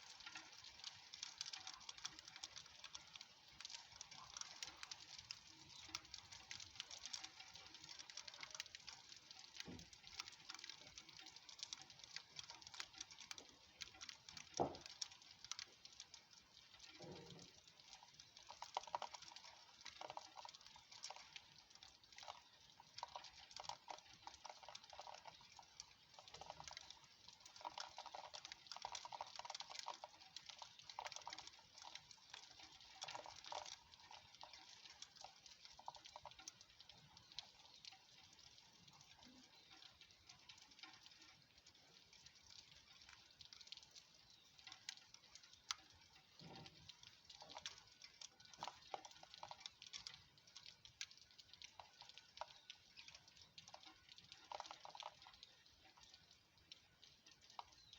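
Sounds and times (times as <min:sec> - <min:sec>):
light rain patter: 0:00.0 - 0:57.9.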